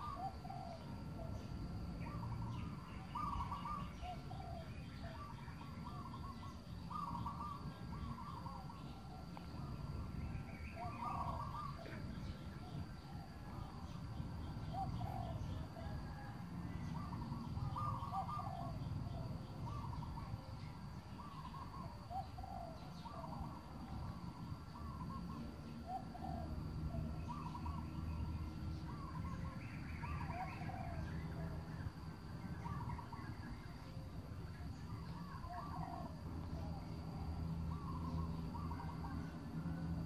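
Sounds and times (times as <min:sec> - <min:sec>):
birds calling: 0:00.0 - 0:01.4, 0:02.0 - 0:23.7, 0:24.8 - 0:39.4.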